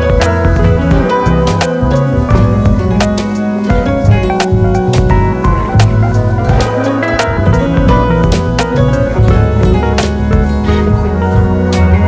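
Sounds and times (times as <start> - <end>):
instrumental music with drum hits: 0.0 - 12.0.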